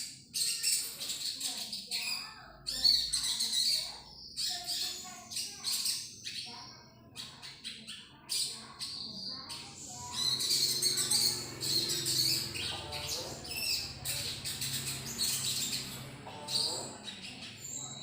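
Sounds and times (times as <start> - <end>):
bird chirping and trilling: 0.0 - 18.0.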